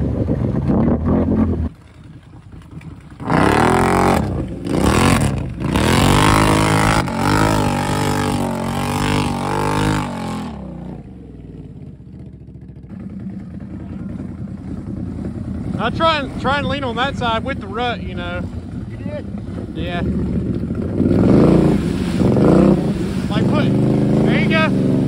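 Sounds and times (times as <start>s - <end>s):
atv engine revving: 0.0s - 25.0s
wheels spinning in mud: 0.0s - 25.0s.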